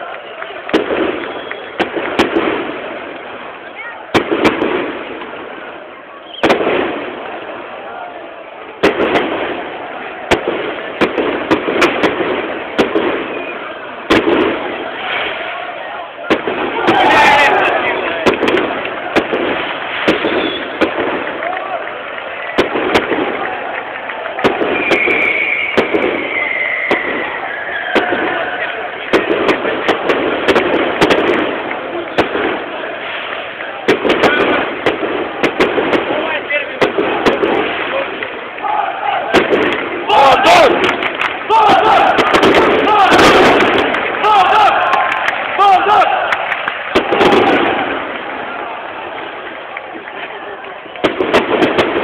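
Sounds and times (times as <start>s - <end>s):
firecrackers banging: 0.0s - 52.0s
stadium crowd noise: 0.0s - 52.0s.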